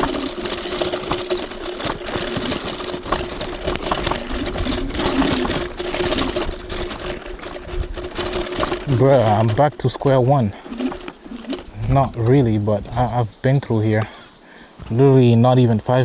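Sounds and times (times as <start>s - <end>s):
scooter clatter and rattle: 0.0s - 14.2s.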